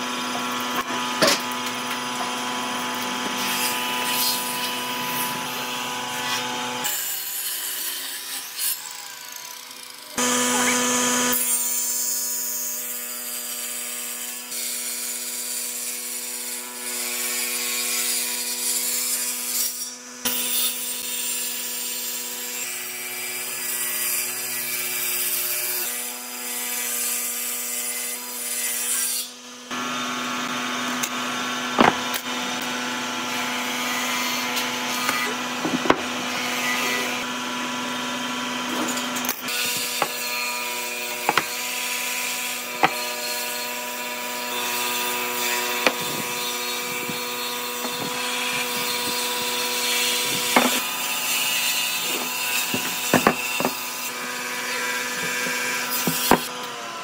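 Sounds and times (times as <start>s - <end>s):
table saw cutting wood: 0.0s - 57.0s.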